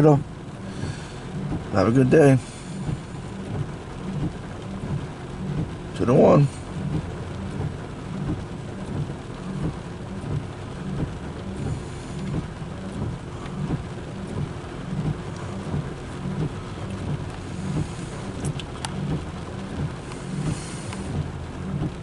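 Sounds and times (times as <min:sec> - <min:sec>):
freight cars rumbling: 0:00.0 - 0:22.0.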